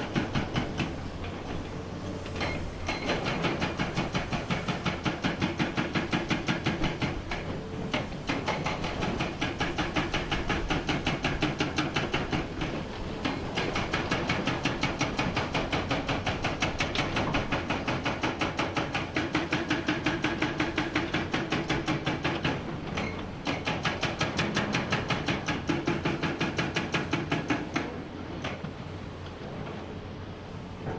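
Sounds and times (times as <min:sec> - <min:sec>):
hydraulic hammer pounding rock: 0:00.0 - 0:01.0, 0:02.4 - 0:28.6.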